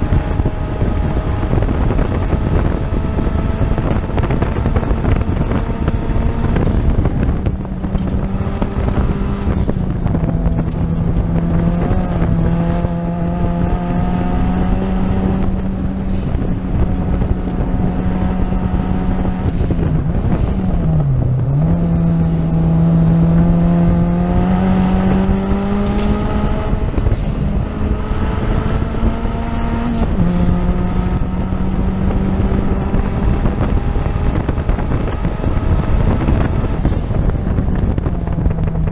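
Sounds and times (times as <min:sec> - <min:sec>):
race car engine at high revs: 0:00.0 - 0:38.9
wind and road rush: 0:00.0 - 0:38.9.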